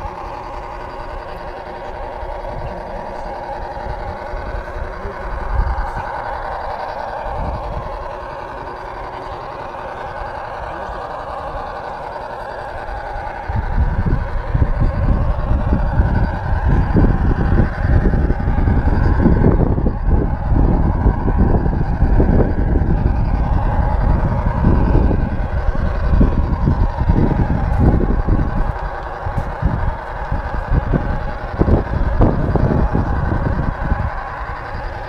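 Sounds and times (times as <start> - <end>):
rail car rumbling on track: 0.0 - 35.0
steady whine: 0.0 - 35.0
wheels clattering on rail joints: 0.0 - 35.0.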